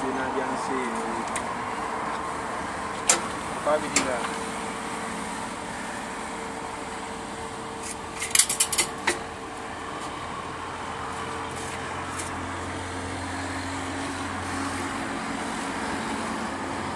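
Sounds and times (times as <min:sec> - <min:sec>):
steady background hum: 0:00.0 - 0:16.9.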